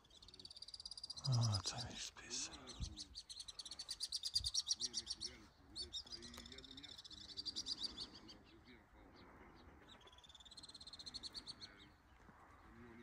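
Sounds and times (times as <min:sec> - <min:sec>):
swifts trilling: 0:00.0 - 0:13.0.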